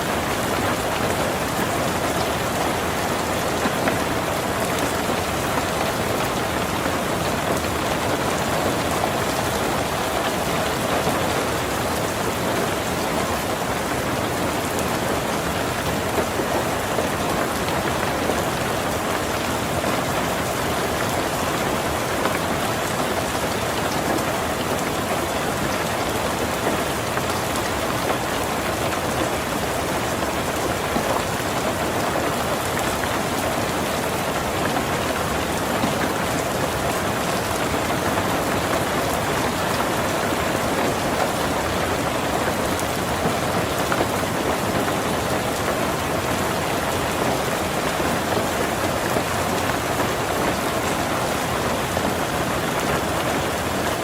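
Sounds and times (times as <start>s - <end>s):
heavy rain on a tin roof: 0.0s - 54.0s.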